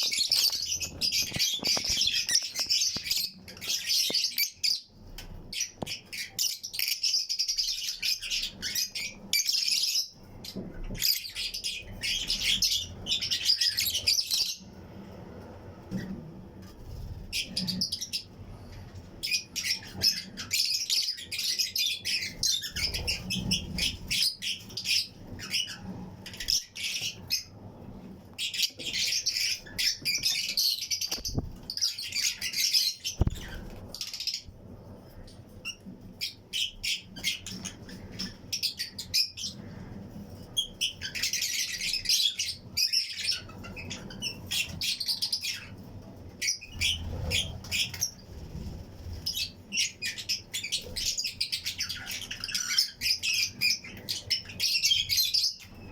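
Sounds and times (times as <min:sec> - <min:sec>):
lovebirds chirping: 0:00.0 - 0:14.8, 0:15.9 - 0:55.9.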